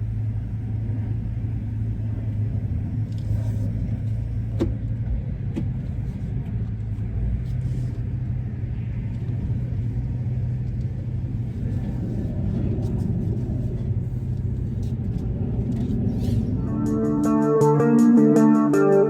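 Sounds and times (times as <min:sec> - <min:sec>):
van engine running: 0:00.0 - 0:19.0.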